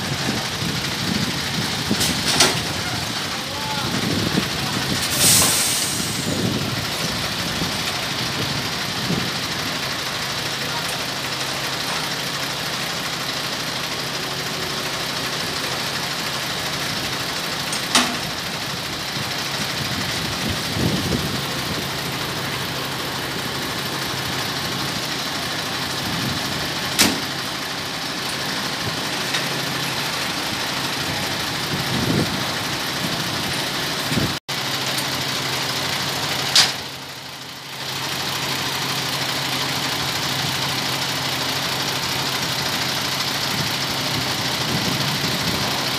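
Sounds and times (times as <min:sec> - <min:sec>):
diesel truck engine idling: 0:00.0 - 0:45.9.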